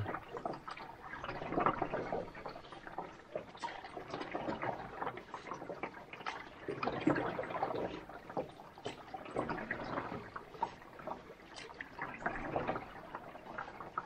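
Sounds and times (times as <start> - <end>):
paddle swishing water: 0.0 - 14.0
water drips and splashes: 0.0 - 14.0.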